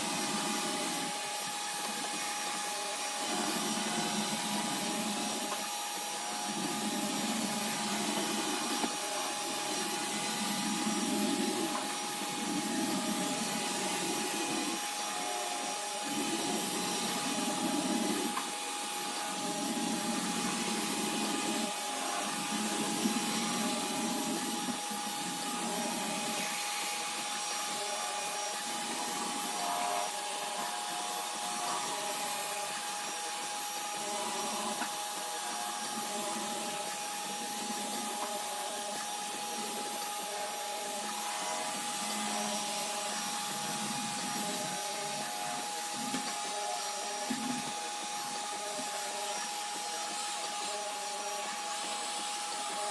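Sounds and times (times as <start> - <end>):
robot vacuum motor whine: 0.0 - 52.9
vacuum brush noise: 0.0 - 52.9.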